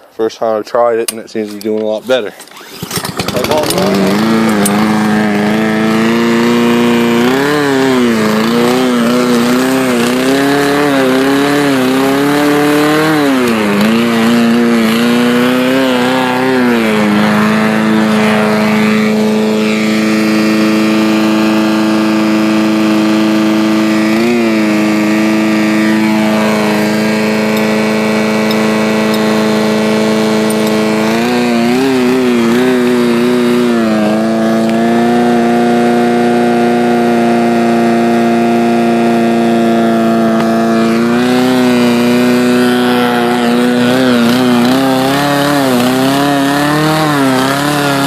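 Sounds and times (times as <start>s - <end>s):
lawnmower engine cutting grass: 1.5s - 48.0s.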